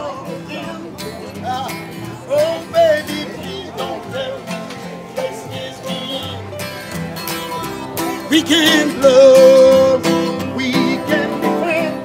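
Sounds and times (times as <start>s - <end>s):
country guitar music: 0.0s - 12.0s
market crowd chatter: 0.0s - 12.0s.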